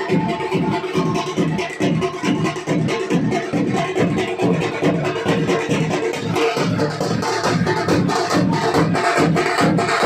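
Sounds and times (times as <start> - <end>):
fast drumming: 0.0 - 10.0.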